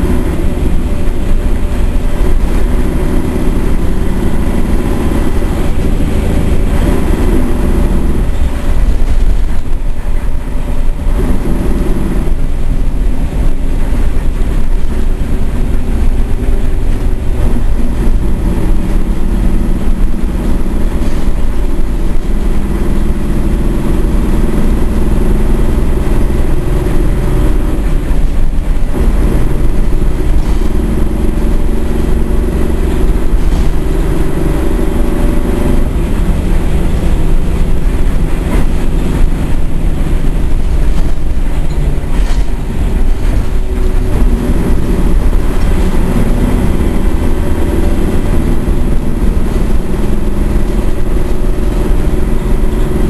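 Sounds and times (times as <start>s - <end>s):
bus diesel engine rumbling: 0.0s - 53.0s.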